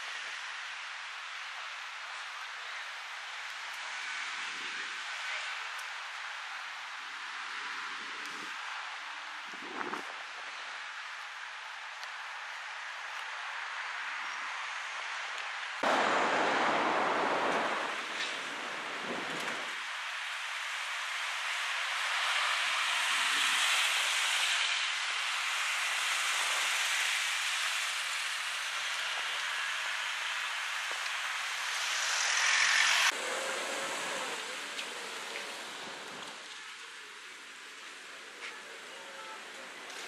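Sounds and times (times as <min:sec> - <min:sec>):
traffic tyre hiss: 0:00.0 - 0:40.0.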